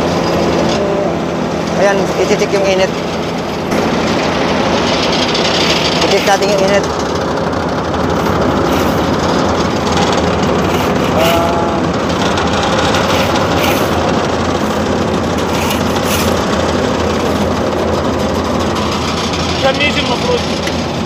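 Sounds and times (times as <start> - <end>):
heavy paving machinery engines: 0.0 - 21.0.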